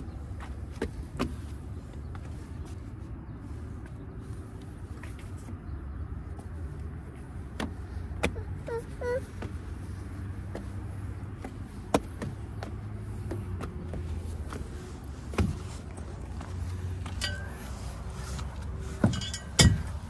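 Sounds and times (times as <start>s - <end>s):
footsteps on metal steps: 0.0s - 3.0s, 6.2s - 20.0s.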